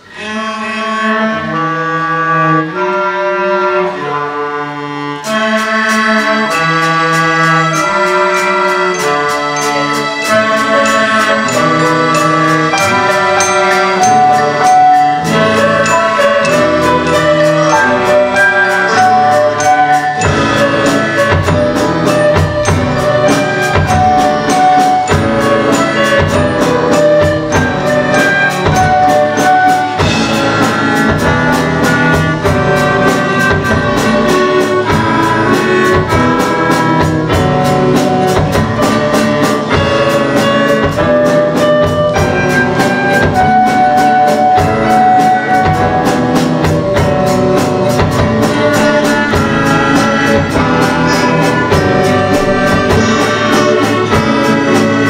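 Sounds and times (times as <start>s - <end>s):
bass: 0.0s - 55.0s
flutes playing melody: 0.0s - 55.0s
strings: 0.0s - 55.0s
drum kit beat: 5.1s - 55.0s
guitars: 7.7s - 55.0s.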